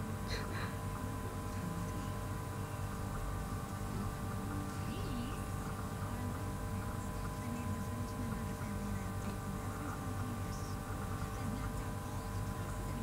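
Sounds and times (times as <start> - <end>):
faint voices: 0.0 - 13.0
steady electrical hum: 0.0 - 13.0.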